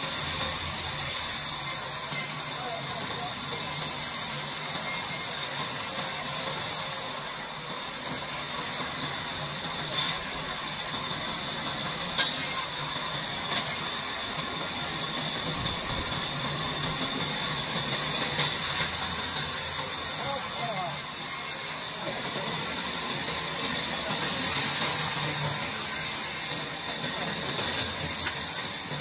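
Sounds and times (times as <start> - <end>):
band saw cutting wood: 0.0 - 29.0.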